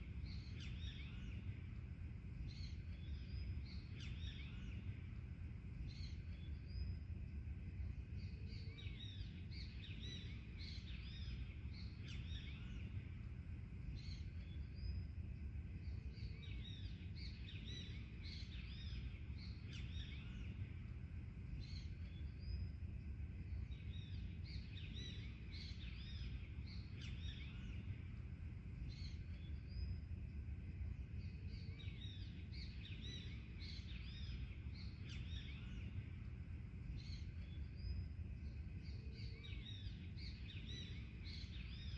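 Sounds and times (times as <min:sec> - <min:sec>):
forest birds chirping: 0:00.0 - 0:41.9
low background rumble: 0:00.0 - 0:41.9.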